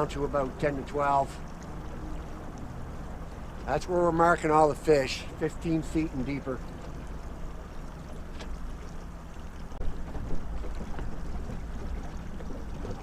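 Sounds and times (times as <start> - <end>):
boat motor running: 0.0 - 13.0
water noise: 0.0 - 13.0.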